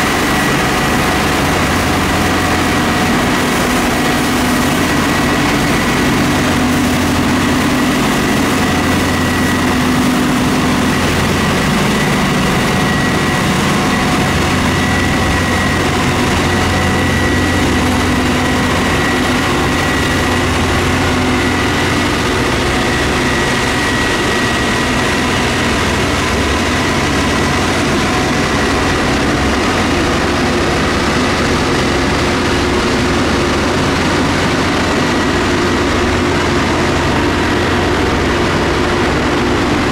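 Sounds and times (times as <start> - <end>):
diesel engines running: 0.0 - 39.9
snow blower running: 0.0 - 39.9.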